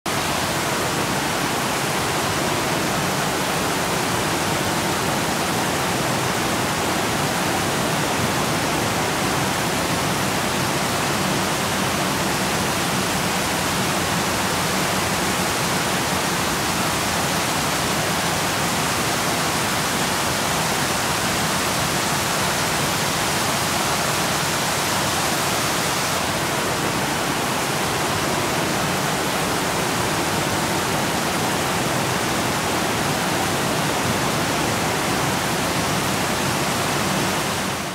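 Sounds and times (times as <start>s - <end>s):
waterfall rushing over rocks: 0.1s - 37.9s.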